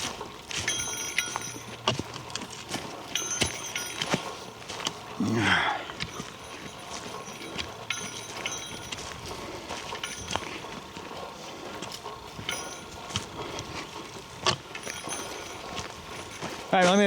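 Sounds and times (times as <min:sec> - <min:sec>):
footsteps crunching on trail: 0:00.0 - 0:17.0
steady outdoor hiss: 0:00.0 - 0:17.0.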